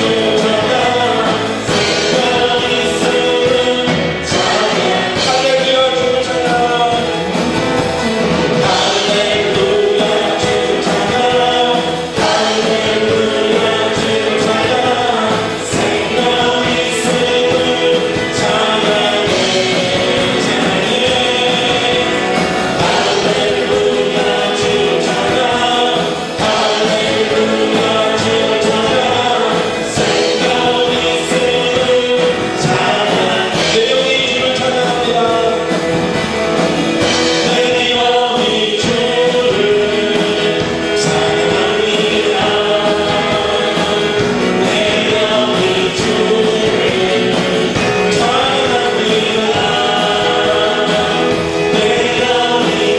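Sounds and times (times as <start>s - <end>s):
group singing gospel song: 0.0s - 52.9s
instrumental accompaniment: 0.0s - 52.9s.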